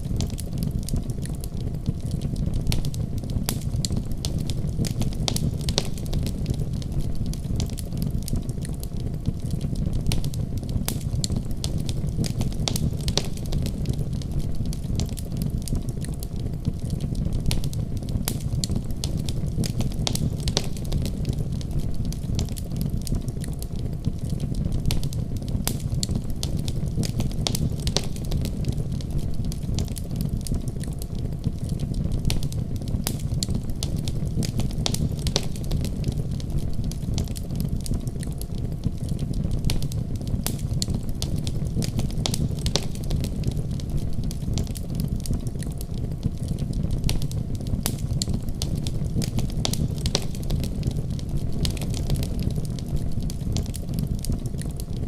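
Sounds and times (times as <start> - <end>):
wood fire burning and crackling: 0.0 - 55.0.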